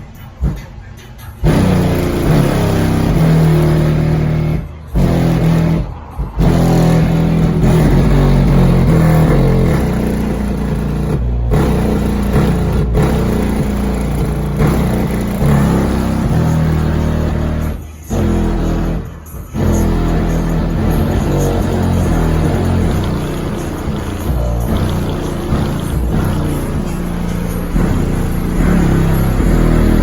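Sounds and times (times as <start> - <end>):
bass-heavy music through subwoofers: 0.0 - 30.0.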